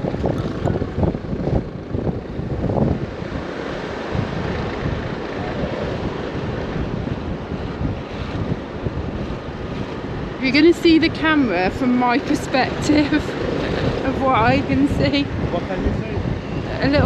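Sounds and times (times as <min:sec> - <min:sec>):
air and road rush: 0:00.0 - 0:17.0
wind buffeting microphone: 0:00.0 - 0:17.0.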